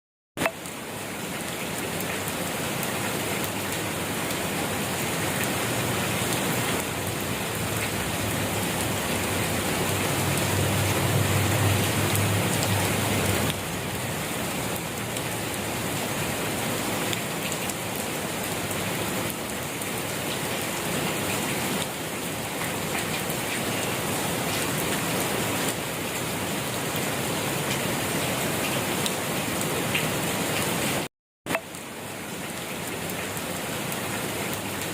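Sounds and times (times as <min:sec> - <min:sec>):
steady rain pattering: 0:00.4 - 0:34.9.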